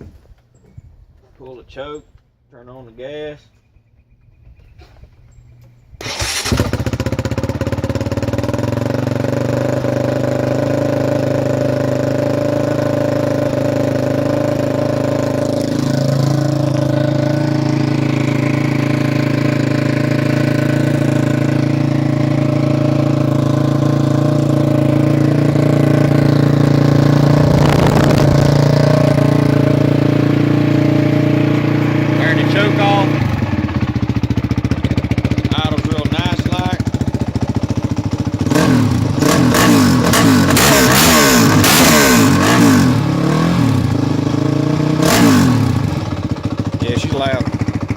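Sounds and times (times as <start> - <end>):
dirt bike engine starting and idling: 4.0 - 47.9.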